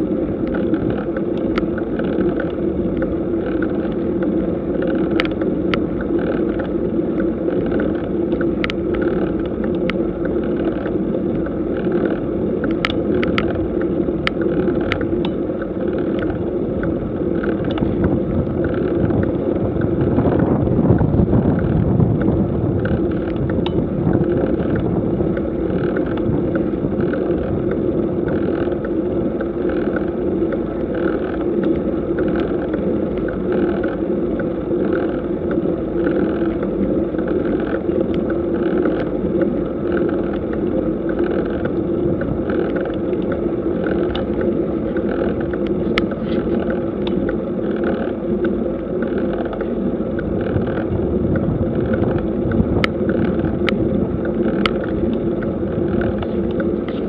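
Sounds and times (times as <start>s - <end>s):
soft rhythmic pulse: 0.0s - 57.0s
wind noise on microphone: 0.0s - 57.0s.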